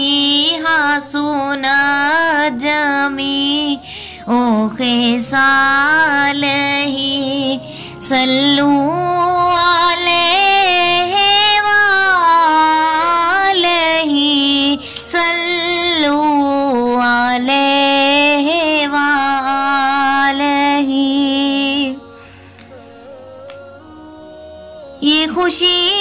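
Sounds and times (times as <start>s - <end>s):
high voice singing devotional song: 0.0s - 26.0s.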